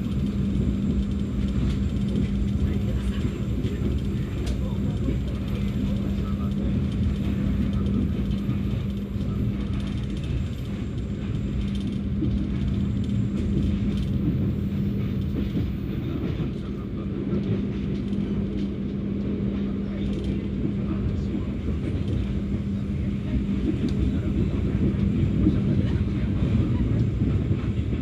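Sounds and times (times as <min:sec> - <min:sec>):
constant hum: 0:00.0 - 0:28.0
train rumbling on rails: 0:00.0 - 0:28.0.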